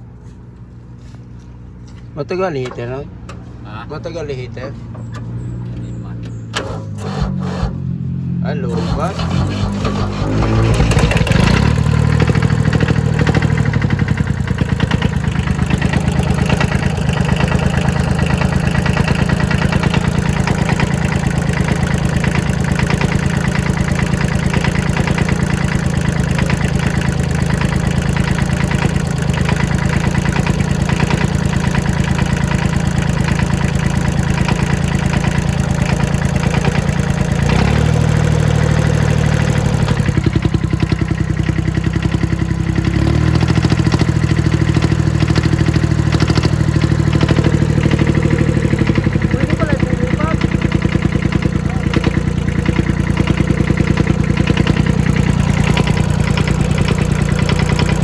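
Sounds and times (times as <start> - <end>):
engine idling loudly: 3.6 - 58.0.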